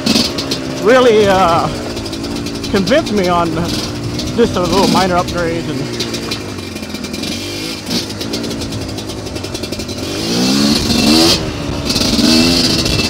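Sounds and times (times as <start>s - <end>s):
two-stroke dirt bike engine revving: 0.0s - 13.0s.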